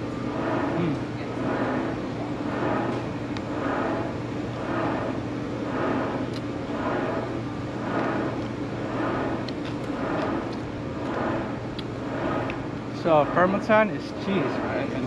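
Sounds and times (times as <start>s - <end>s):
pulsing mechanical hum: 0.0s - 15.0s.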